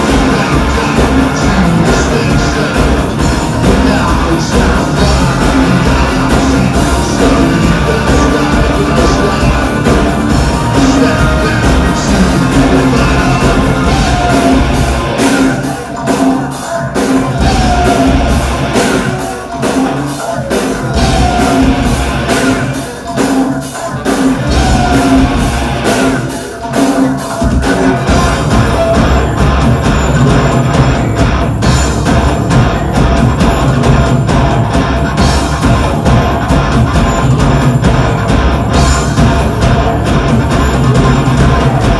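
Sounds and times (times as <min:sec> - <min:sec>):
metal band playing: 0:00.0 - 0:41.9.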